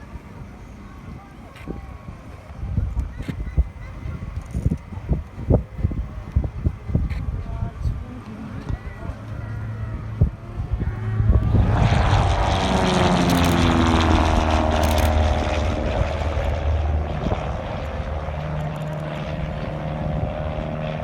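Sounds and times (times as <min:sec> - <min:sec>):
propeller plane droning past: 0:03.7 - 0:21.0.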